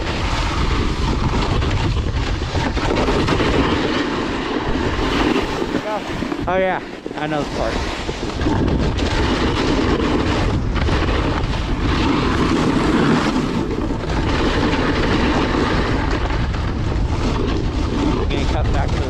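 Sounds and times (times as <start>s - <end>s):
low rumble: 0.0s - 19.0s
snowboard scraping over snow: 0.0s - 19.0s.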